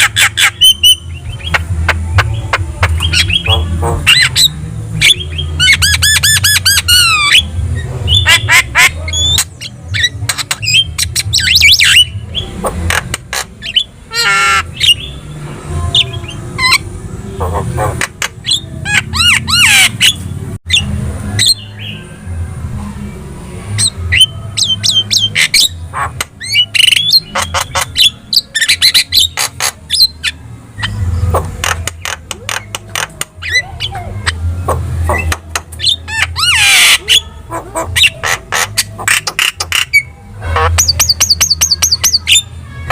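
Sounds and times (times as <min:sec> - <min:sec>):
myna bird singing: 0:00.0 - 0:22.4, 0:23.0 - 0:42.9.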